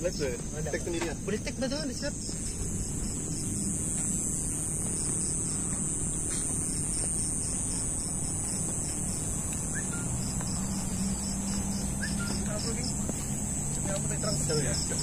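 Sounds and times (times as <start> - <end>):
high-pitched insect buzz: 0.0 - 15.0
insect chirping: 0.0 - 15.0.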